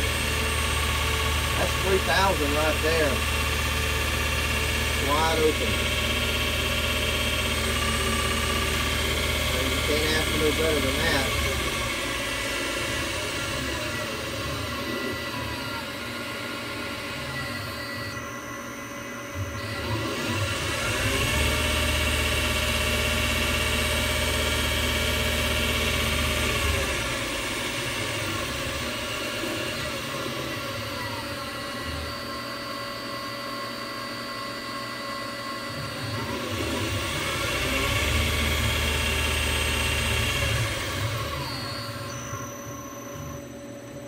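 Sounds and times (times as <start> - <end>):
lathe motor whirring: 0.0 - 44.0.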